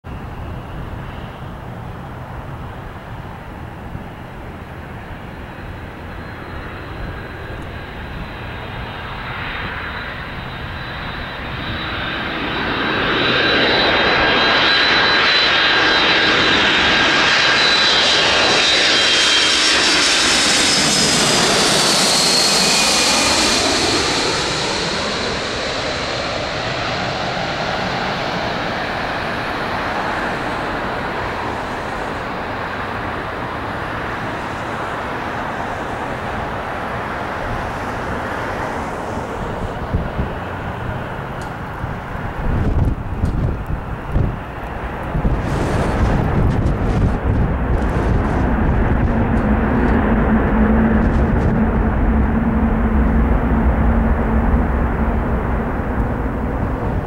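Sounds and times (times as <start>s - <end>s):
jet engines passing overhead: 0.1s - 57.0s
high jet whine dropping in pitch: 5.6s - 40.7s, 42.0s - 57.0s.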